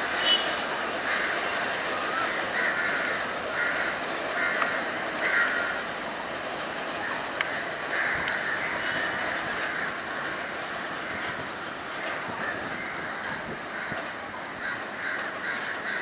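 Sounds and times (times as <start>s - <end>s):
slow-moving train: 0.0s - 16.0s
crows cawing: 1.0s - 5.9s, 7.0s - 16.0s.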